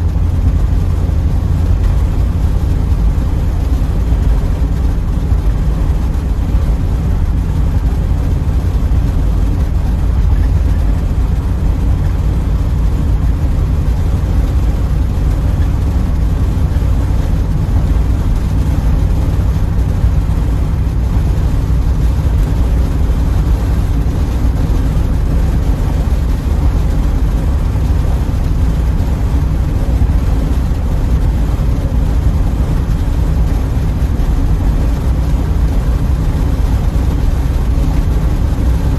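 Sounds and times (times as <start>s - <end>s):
car engine cruising: 0.0s - 38.9s
road noise: 0.0s - 38.9s.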